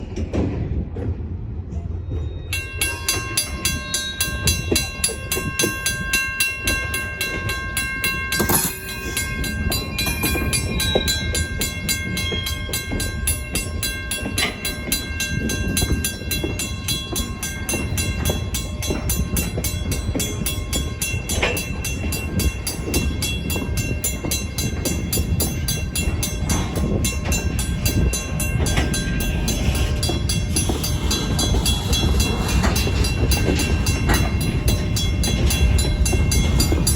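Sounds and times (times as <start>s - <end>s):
train rumbling: 0.0s - 36.9s
crossing bell clanging rapidly: 2.4s - 36.9s.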